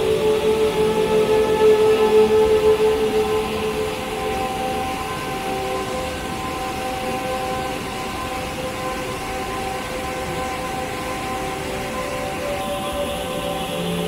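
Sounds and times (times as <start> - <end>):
faint steady tones: 0.0 - 14.0.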